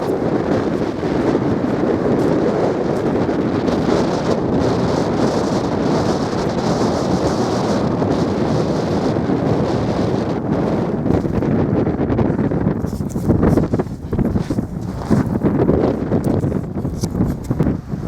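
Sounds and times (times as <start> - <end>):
strong wind buffeting microphone: 0.0 - 18.0.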